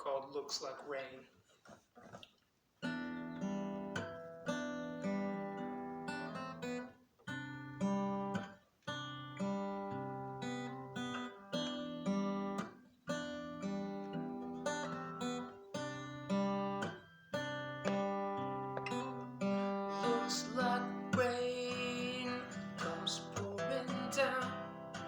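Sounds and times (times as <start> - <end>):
acoustic guitar strumming chords: 2.8 - 25.0.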